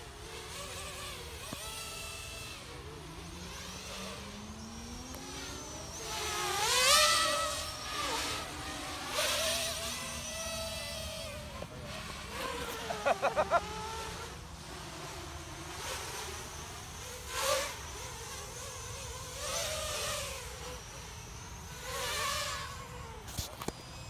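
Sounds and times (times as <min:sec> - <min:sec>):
racing drones whining: 0:00.0 - 0:24.0.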